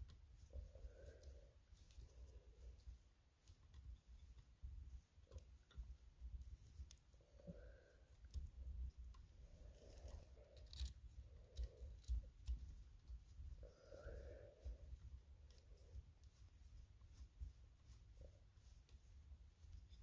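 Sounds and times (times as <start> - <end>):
light handling clicks and rustles: 0.0 - 20.0.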